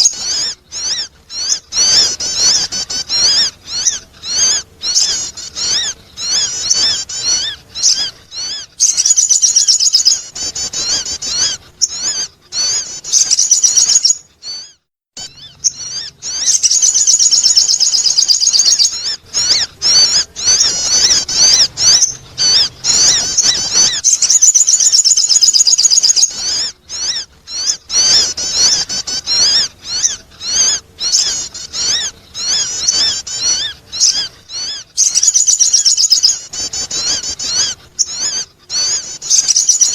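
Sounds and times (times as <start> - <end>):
bird high rapid chirping: 0.0 - 39.9.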